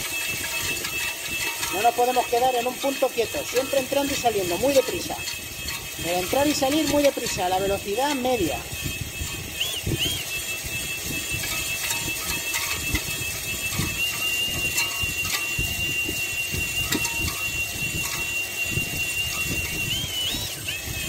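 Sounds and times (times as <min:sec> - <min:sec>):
cylinder hone motor whine: 0:00.0 - 0:21.0
low rumble of hone stones: 0:00.0 - 0:21.0.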